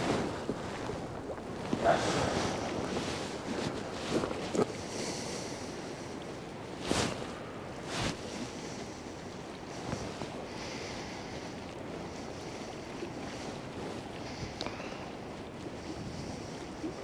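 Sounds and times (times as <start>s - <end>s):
sea washing on shore: 0.0s - 17.0s
wind over microphone: 0.0s - 17.0s.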